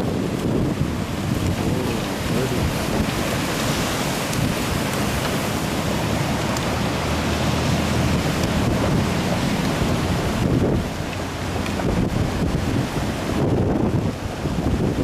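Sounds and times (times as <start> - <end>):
floodwater rushing: 0.0 - 15.0
wind buffeting microphone: 0.0 - 15.0.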